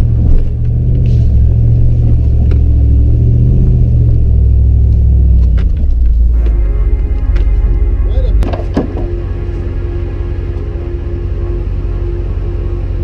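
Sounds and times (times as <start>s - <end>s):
truck engine deep rumble: 0.0s - 13.0s.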